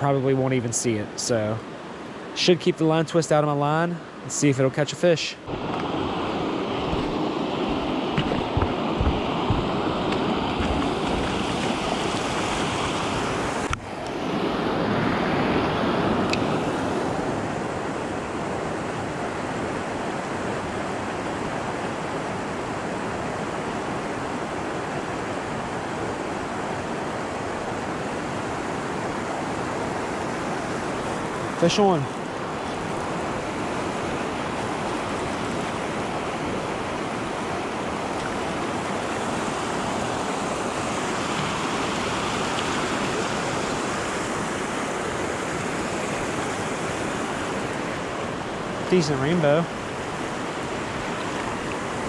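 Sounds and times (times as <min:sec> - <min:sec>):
flowing creek water: 0:00.0 - 0:52.0
water rushing over weir: 0:05.4 - 0:52.0.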